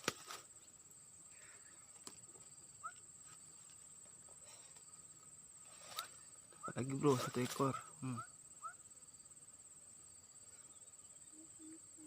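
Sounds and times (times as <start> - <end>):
high-pitched insect trill: 0.3 - 12.0.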